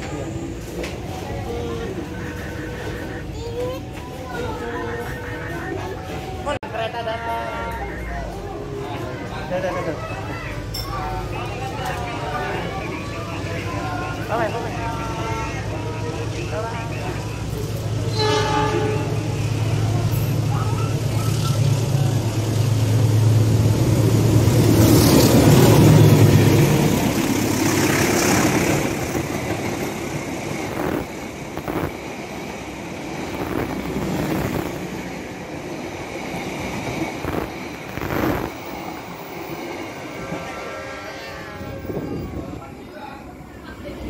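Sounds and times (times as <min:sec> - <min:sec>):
diesel locomotive engine drone: 0:00.0 - 0:44.0
train coaches rumbling: 0:00.0 - 0:44.0.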